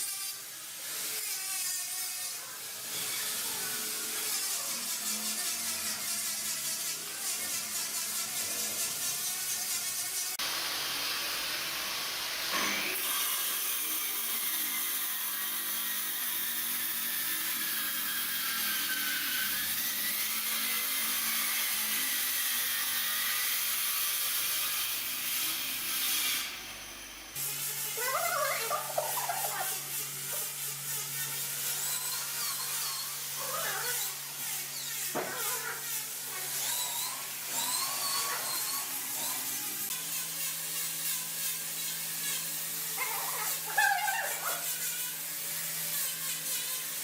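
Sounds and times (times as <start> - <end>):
power tool working wood: 0.0 - 47.0.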